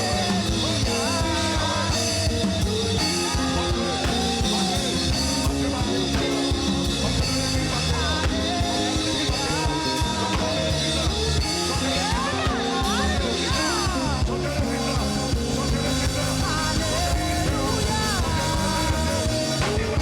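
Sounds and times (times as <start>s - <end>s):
drum kit beat: 0.0s - 20.0s
live band playing worship song: 0.0s - 20.0s
voices singing: 0.0s - 20.0s.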